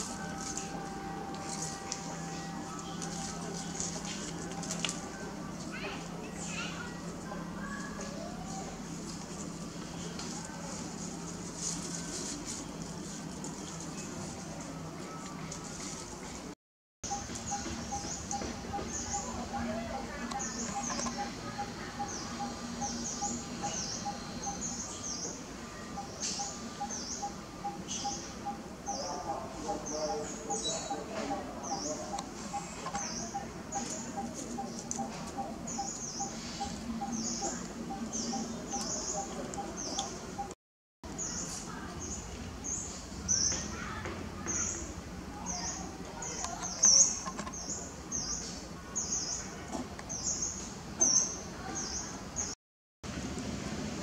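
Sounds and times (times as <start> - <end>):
birds chirping: 0.0 - 15.6, 17.0 - 52.6.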